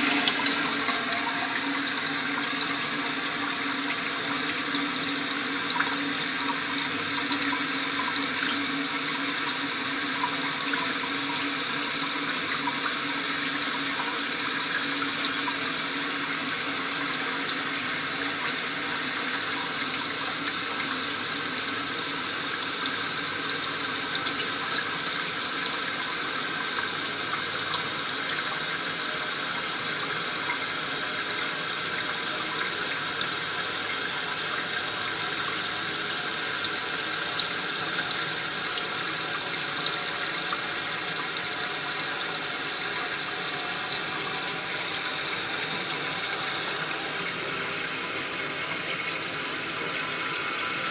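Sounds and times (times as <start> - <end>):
toilet tank refilling: 0.0 - 50.9.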